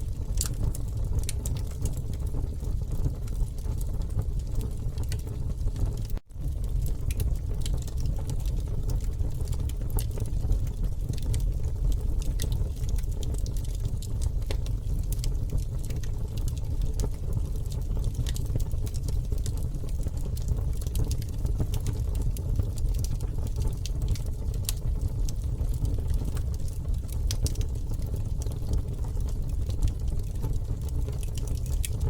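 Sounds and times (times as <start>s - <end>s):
campfire crackling and popping: 0.0s - 32.0s
fire low rumble: 0.0s - 32.0s.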